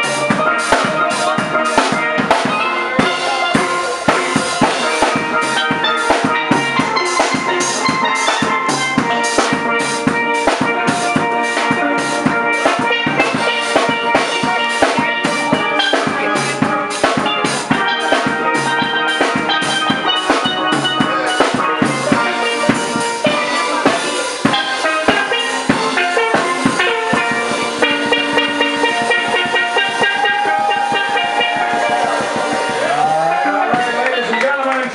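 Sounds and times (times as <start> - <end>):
drum kit beat: 0.0 - 34.9
steel pan music: 0.0 - 34.9.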